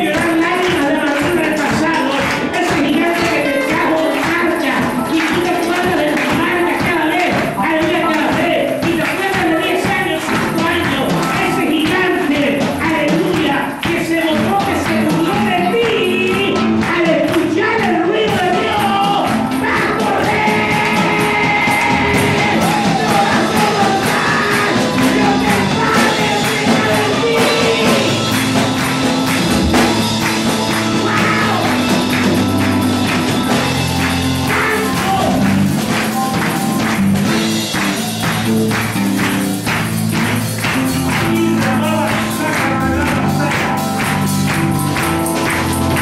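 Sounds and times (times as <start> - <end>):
person singing: 0.0 - 39.8, 40.7 - 46.0
band playing worship music: 0.0 - 46.0
steady percussion: 0.0 - 46.0.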